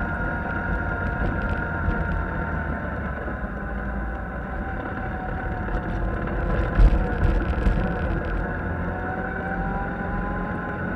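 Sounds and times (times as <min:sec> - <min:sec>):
utility vehicle engine droning: 0:00.0 - 0:10.9.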